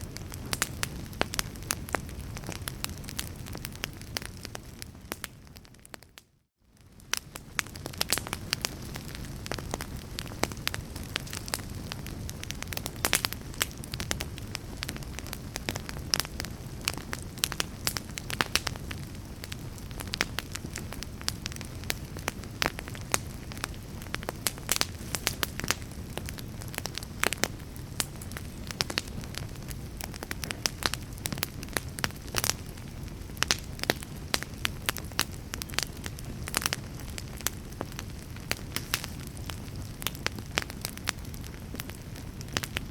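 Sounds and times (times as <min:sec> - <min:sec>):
fire crackling and popping: 0:00.0 - 0:42.9
low rumble of burning: 0:00.0 - 0:42.9.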